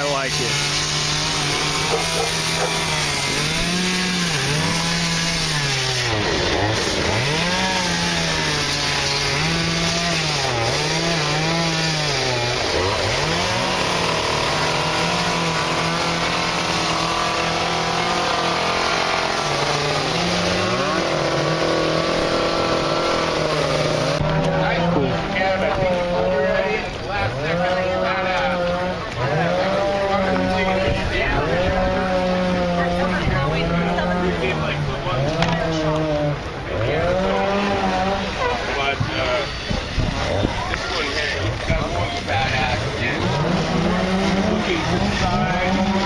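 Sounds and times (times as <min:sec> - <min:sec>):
chainsaw cutting wood: 0:00.0 - 0:46.0.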